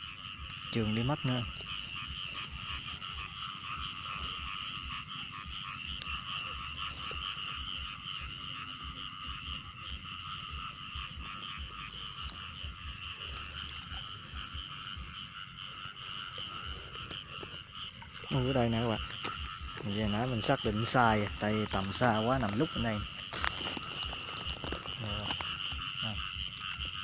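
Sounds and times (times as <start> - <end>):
chorus of frogs calling: 0.0 - 27.0.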